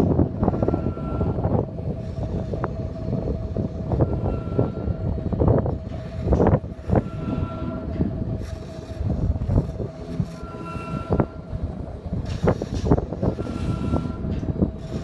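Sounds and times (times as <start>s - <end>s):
equipment whine: 0.0s - 15.0s
wind buffeting microphone: 0.0s - 15.0s.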